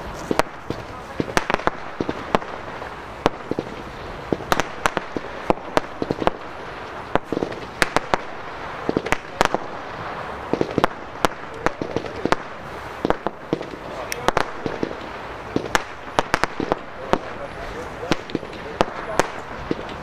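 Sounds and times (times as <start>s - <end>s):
fireworks bangs and pops: 0.0s - 20.0s
steady hiss: 0.0s - 20.0s.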